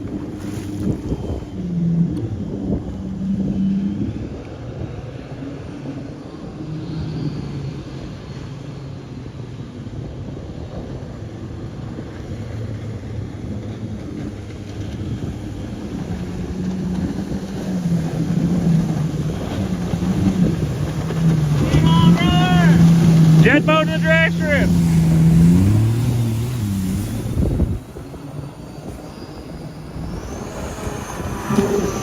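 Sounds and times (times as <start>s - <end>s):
jet boat engine running: 0.0s - 32.0s.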